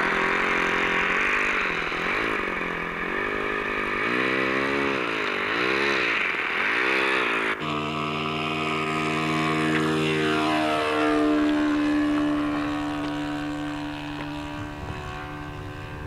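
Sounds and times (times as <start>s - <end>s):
model airplane engine running: 0.0s - 16.0s.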